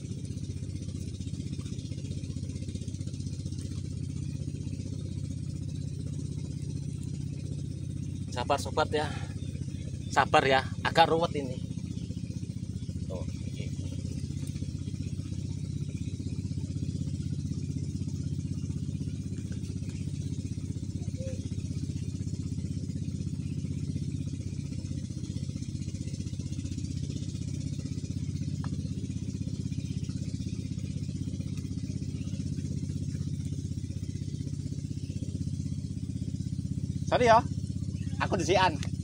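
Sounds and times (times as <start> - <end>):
small engine idling: 0.0 - 39.0.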